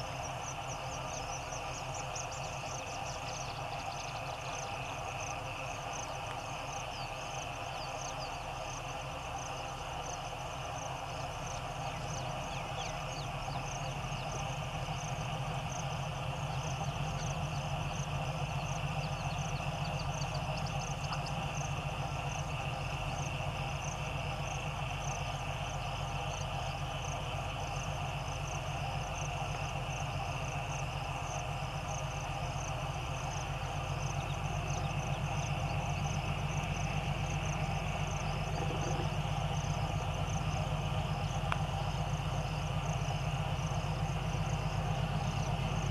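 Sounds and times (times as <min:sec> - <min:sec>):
distant diesel locomotive engine throb: 0:00.0 - 0:45.9.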